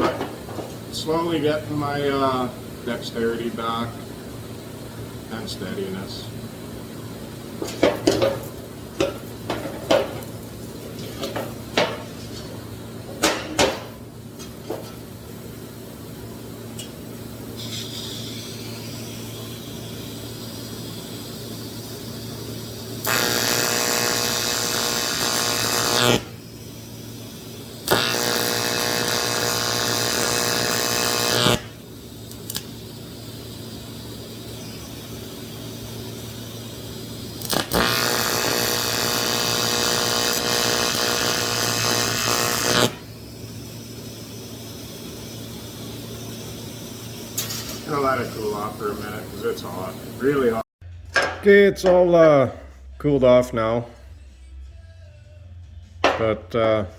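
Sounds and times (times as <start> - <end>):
welding arc buzzing: 0.0 - 50.6
steady low hum: 0.0 - 56.9.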